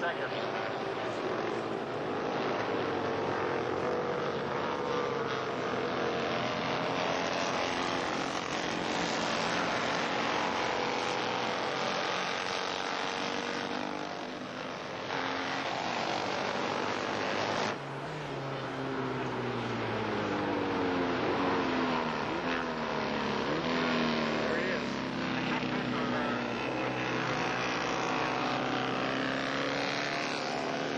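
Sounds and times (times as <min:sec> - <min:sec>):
racing motorcycles passing: 0:00.0 - 0:30.9.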